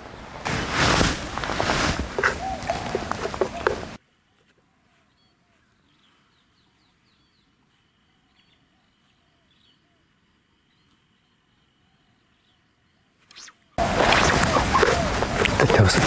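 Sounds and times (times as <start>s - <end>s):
birds chirping: 1.3s - 16.0s.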